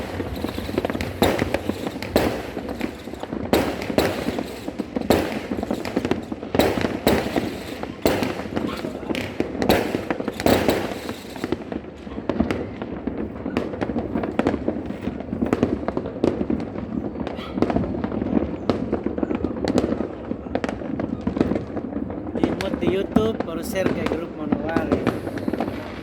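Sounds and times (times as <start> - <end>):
fireworks and firecrackers crackling: 0.0 - 26.0.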